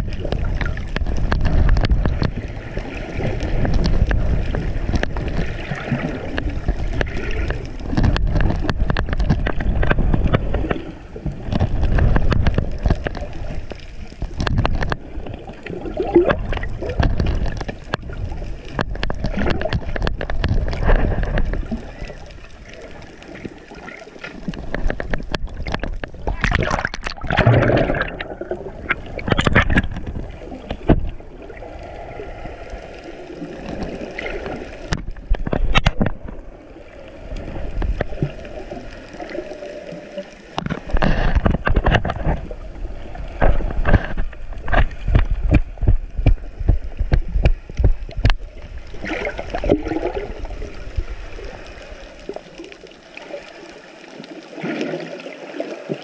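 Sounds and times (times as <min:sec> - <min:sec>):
water sloshing and splashing: 0:00.0 - 0:56.0.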